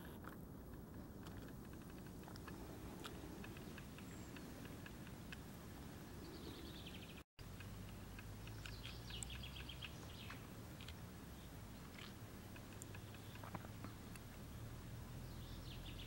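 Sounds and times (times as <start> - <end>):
small birds chirping: 1.0 - 16.0.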